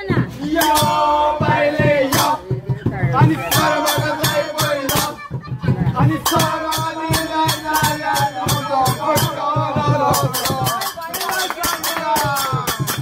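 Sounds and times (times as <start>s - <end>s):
festive music melody: 0.0s - 13.0s
quick percussion beat: 0.0s - 13.0s.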